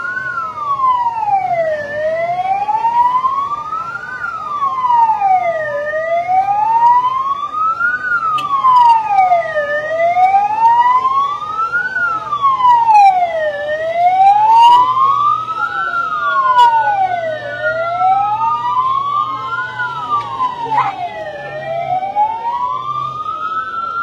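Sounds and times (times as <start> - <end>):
siren wailing: 0.0 - 24.0.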